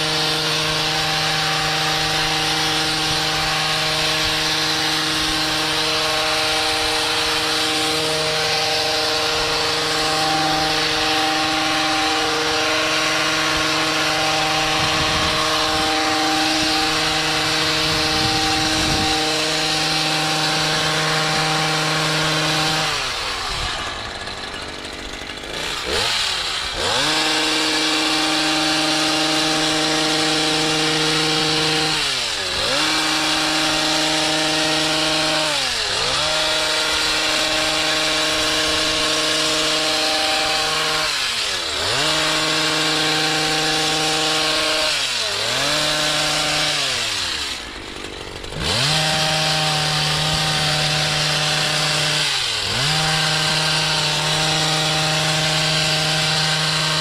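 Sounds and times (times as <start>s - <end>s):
blades shearing shrub: 0.0s - 57.0s
hedge trimmer engine revving: 0.0s - 57.0s.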